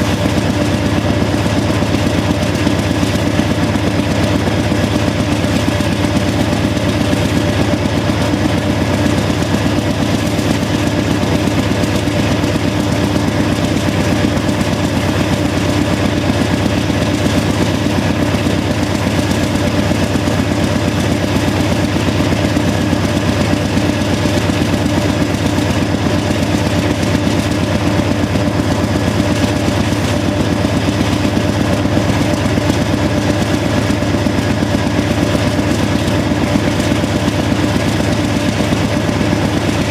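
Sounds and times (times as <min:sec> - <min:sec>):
diesel locomotive engine under load: 0:00.0 - 0:39.9.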